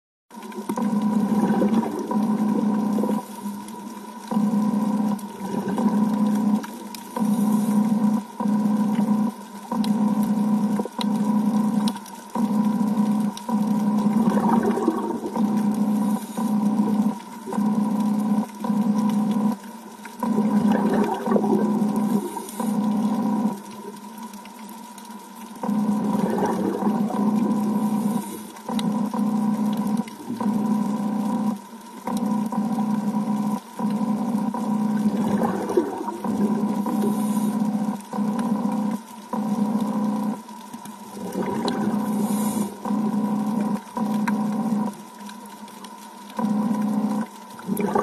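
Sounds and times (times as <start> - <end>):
muffled underwater rumble: 0.3 - 48.0.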